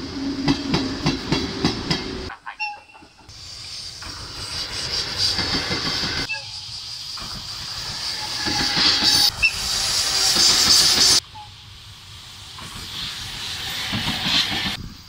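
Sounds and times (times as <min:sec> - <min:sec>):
freight train rumble and hiss: 0:00.0 - 0:15.0.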